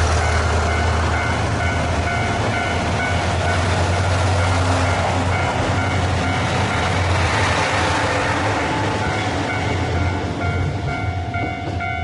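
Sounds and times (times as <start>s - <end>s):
diesel train rolling past: 0.0s - 12.0s.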